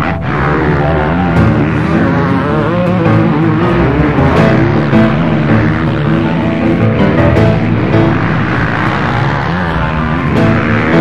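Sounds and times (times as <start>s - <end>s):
music soundtrack: 0.0s - 11.0s.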